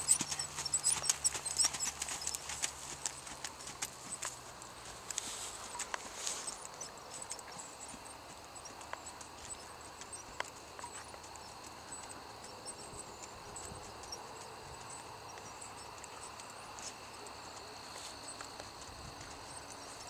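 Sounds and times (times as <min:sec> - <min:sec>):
horse hooves on dirt: 0:00.0 - 0:20.0.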